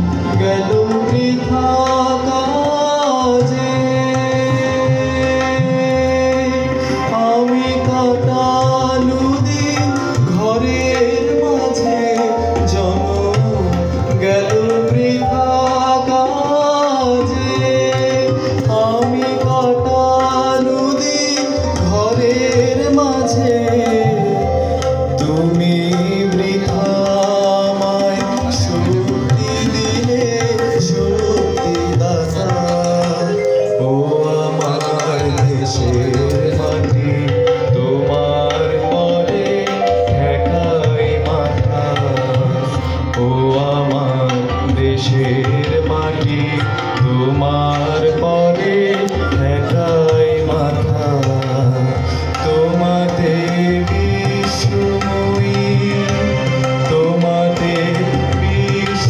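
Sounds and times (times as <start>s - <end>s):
person singing: 0.0s - 59.0s
tabla strokes: 0.0s - 59.0s.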